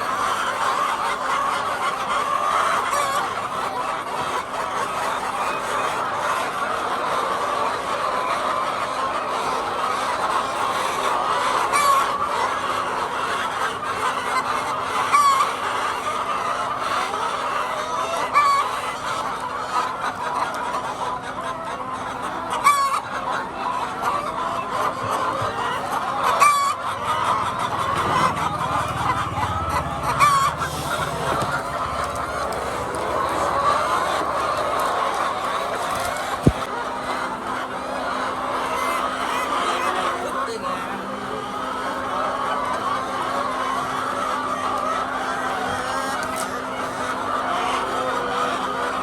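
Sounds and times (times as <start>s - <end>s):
hens clucking: 0.0s - 49.0s.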